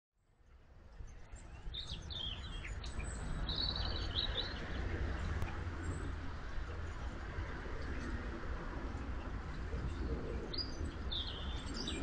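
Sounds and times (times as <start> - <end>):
propeller churning water: 0.6 - 12.0.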